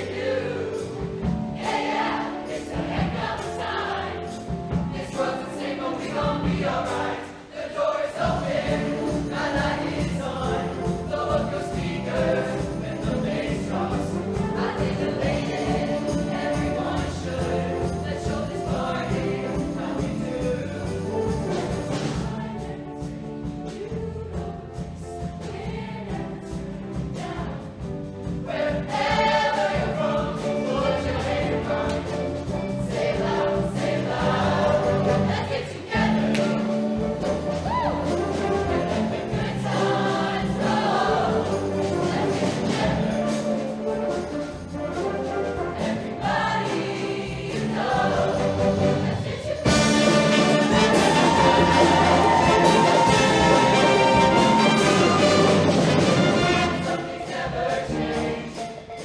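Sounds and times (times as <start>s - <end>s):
choir singing in harmony: 0.0s - 59.0s
musical accompaniment with bass line: 8.3s - 59.0s.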